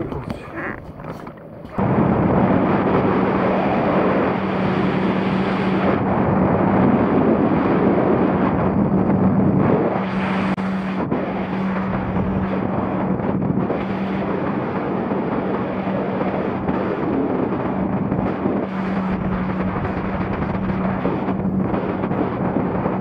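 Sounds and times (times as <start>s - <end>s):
jet ski engine humming: 0.0s - 23.0s
wind on microphone: 0.0s - 23.0s.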